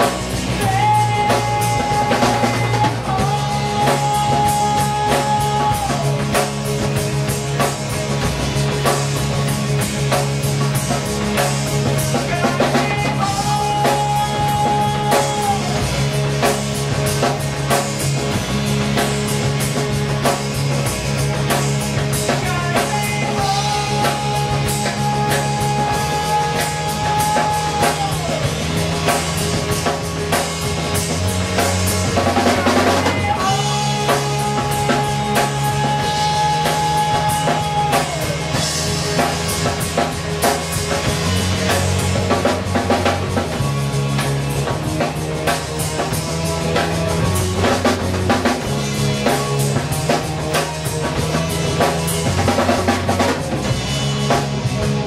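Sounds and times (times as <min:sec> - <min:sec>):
drum kit beat: 0:00.0 - 0:55.0
electric guitar: 0:00.0 - 0:55.0.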